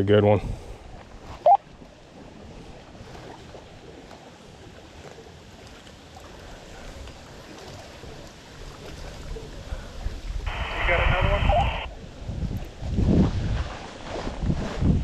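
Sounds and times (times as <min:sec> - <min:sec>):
wind: 0:00.0 - 0:15.0
water lapping against kayak: 0:00.4 - 0:11.0, 0:11.6 - 0:15.0.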